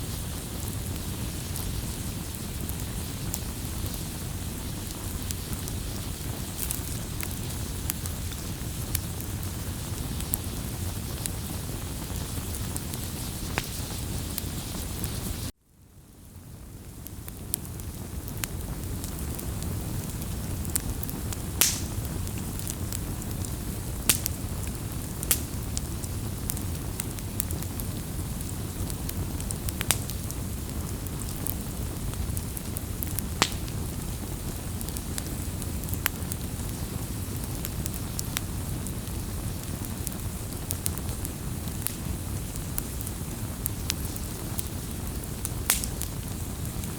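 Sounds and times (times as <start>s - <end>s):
campfire crackling and popping: 0.0s - 15.6s, 16.4s - 46.9s.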